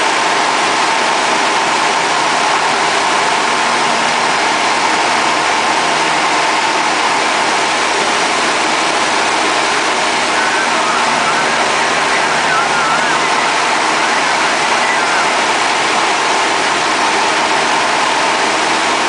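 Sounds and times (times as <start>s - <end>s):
small plane engine droning: 0.0s - 19.0s.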